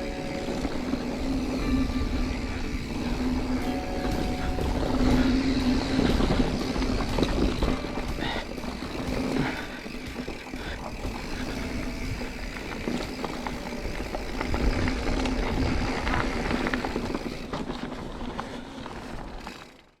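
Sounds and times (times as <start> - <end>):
wind rumble on microphone: 0.0 - 19.5
bike clattering and rattling: 0.0 - 20.0
tyres crunching over loose ground: 0.0 - 20.0.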